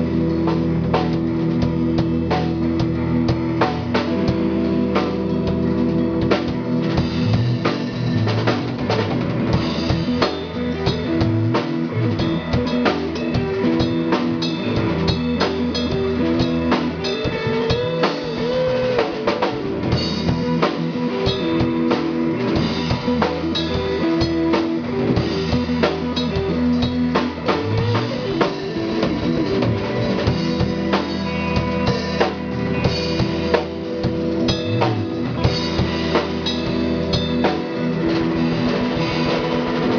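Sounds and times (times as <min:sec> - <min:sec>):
band music: 0:00.0 - 0:39.9
drum kit beat: 0:00.0 - 0:39.9.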